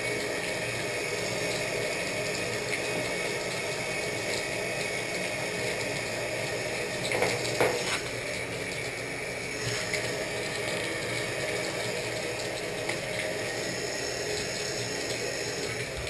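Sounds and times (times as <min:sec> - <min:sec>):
water running into bathtub: 0:00.0 - 0:16.0.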